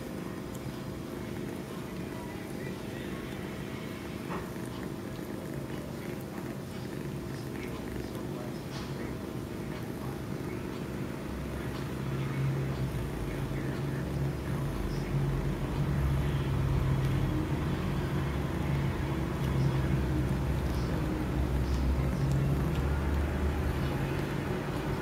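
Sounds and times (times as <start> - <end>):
kitten purring: 0.0 - 10.9, 12.5 - 25.0.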